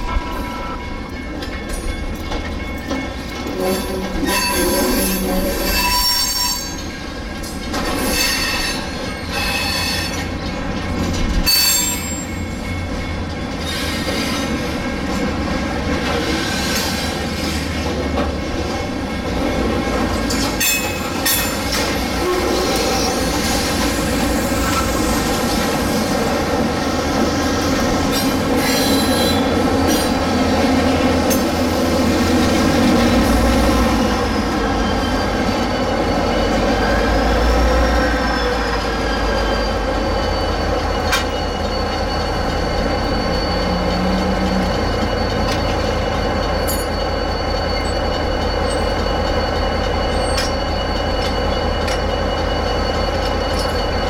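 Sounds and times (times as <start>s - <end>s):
diesel locomotive: 0.0s - 54.0s
train wheels squealing on rails: 0.0s - 54.0s.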